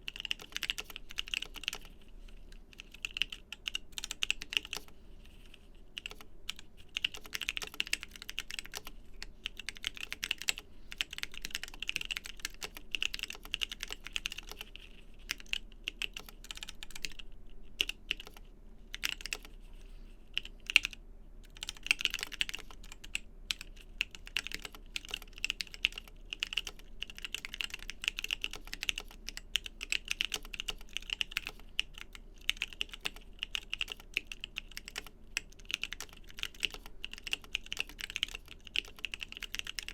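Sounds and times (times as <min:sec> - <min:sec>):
mechanical keyboard typing: 0:00.0 - 0:02.0, 0:02.7 - 0:05.4, 0:06.0 - 0:19.6, 0:20.4 - 0:39.9.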